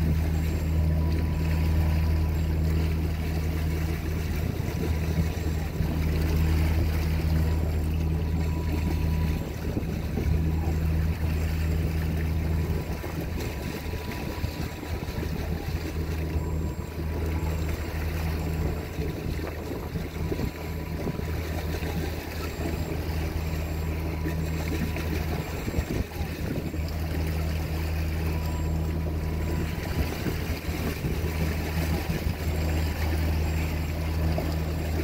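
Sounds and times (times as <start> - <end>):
boat engine droning: 0.0 - 35.0
water rushing: 0.0 - 35.0
wind: 0.0 - 35.0.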